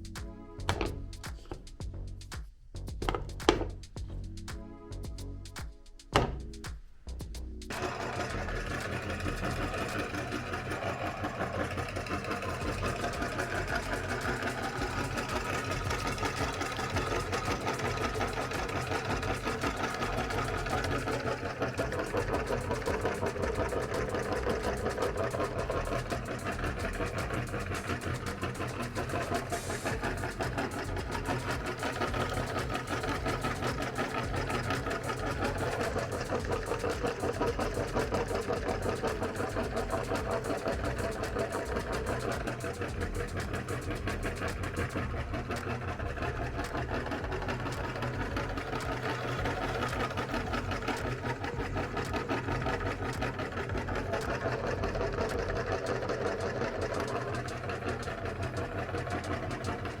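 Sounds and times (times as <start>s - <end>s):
electric meat grinder running: 7.7s - 60.0s.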